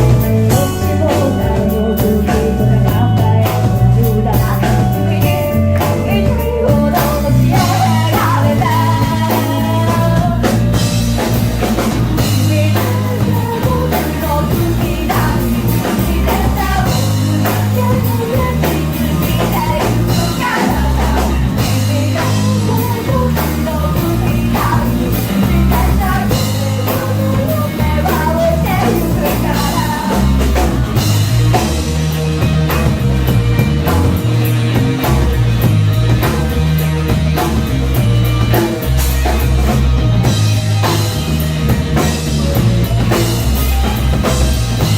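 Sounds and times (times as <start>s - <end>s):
drums: 0.0s - 44.9s
electric guitar: 0.0s - 44.9s
rock band playing: 0.0s - 44.9s.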